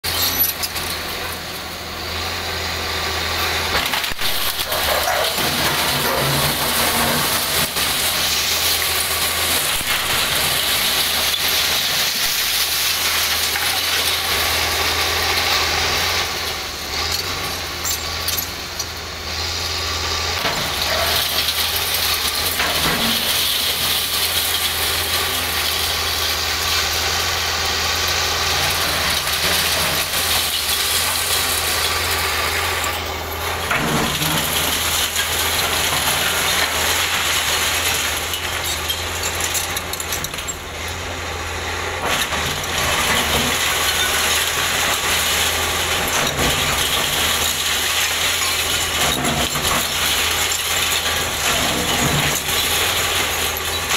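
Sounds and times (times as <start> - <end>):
concrete rubble crumbling and falling: 0.0 - 53.9
excavator diesel engines running: 0.0 - 53.9.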